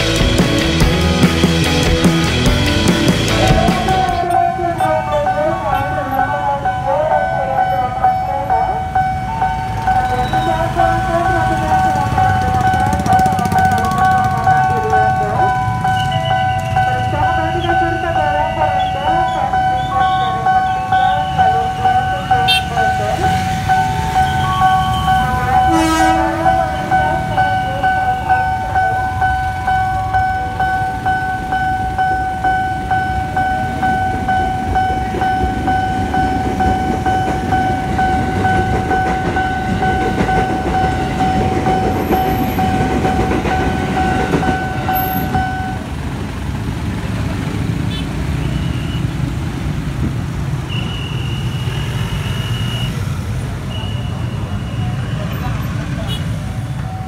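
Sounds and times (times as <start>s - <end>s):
crossing alarm electronic tone: 0.0s - 46.0s, 47.9s - 49.2s, 50.6s - 57.0s
electric train rumbling past: 0.0s - 57.0s
motorcycles and traffic rumble: 0.0s - 57.0s.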